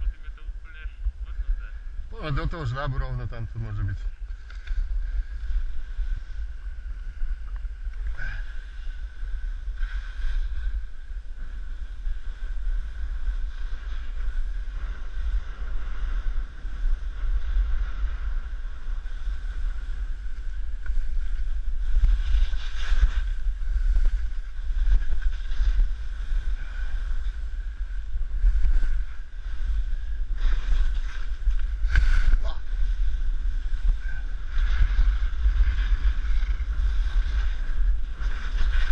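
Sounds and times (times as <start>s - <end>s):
wind buffeting microphone: 0.0s - 38.9s
skis scraping on snow: 2.2s - 38.9s.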